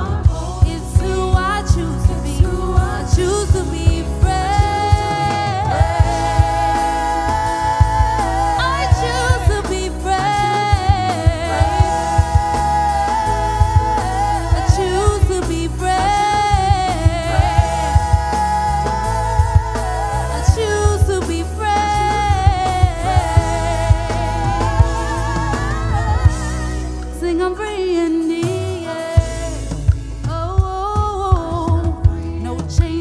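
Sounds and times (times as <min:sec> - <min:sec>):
voices singing gospel: 0:00.0 - 0:30.4
bass and drums: 0:00.0 - 0:33.0.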